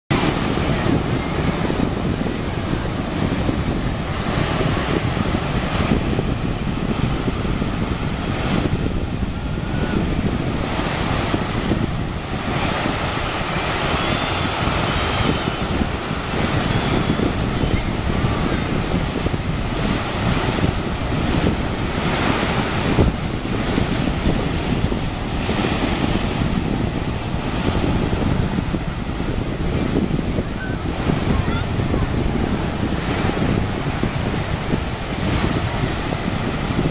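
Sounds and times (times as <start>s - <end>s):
ocean surf breaking: 0.1s - 36.9s
wind buffeting microphone: 0.1s - 36.9s.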